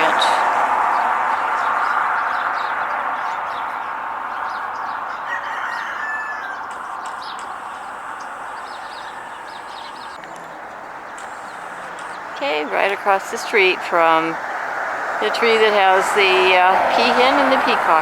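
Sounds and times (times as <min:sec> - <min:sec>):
bird chirps and calls: 0:00.0 - 0:18.0
distant background noise: 0:00.0 - 0:18.0.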